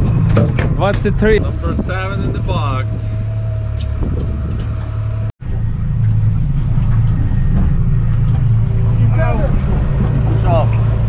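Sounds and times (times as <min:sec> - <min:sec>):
outboard motor running: 0:00.0 - 0:11.0
water noise: 0:00.0 - 0:11.0
wind noise: 0:00.0 - 0:11.0.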